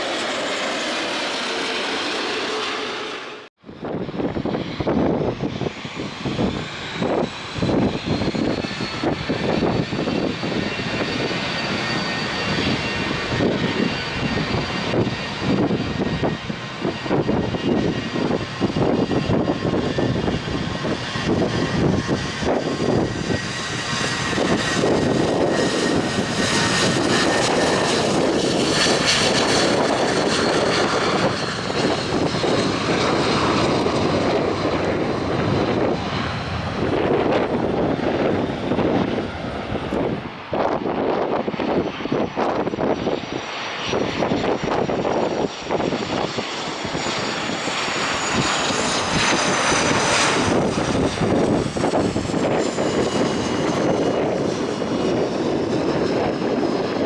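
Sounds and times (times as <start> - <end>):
high jet engine whine: 0.0 - 57.0
jet engines roaring: 0.0 - 57.0.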